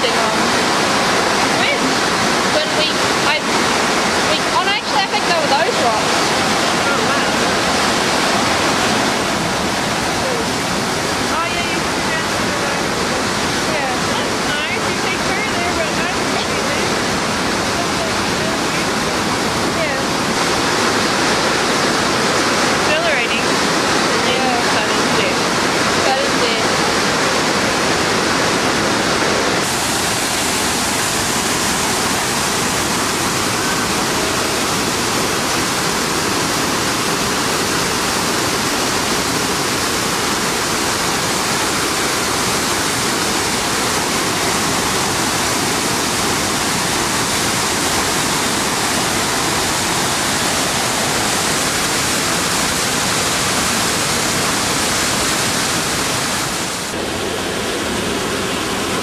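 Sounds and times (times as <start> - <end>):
fast river water rushing: 0.0 - 59.0.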